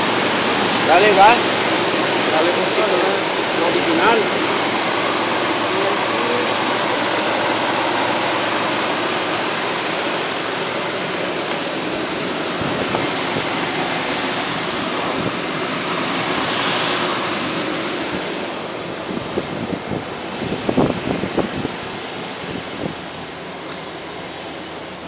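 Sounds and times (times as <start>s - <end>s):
pickup engine at open throttle: 0.0s - 25.0s.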